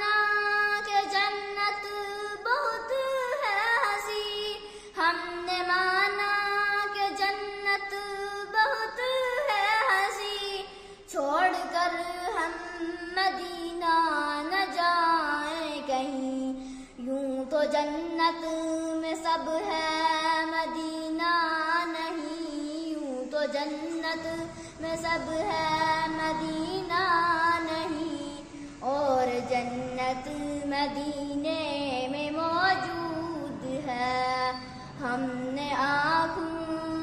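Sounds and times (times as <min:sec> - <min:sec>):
girl singing devotional song: 0:00.0 - 0:37.0.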